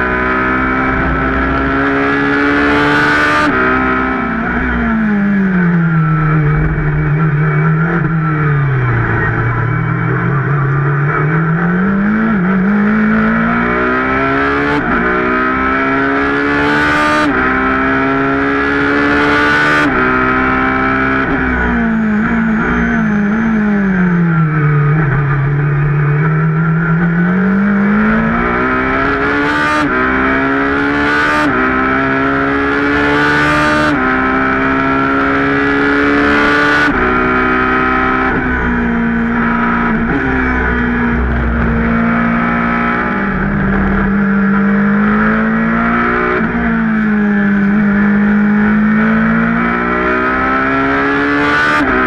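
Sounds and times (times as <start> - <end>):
racing engine accelerating: 0.0 - 52.0.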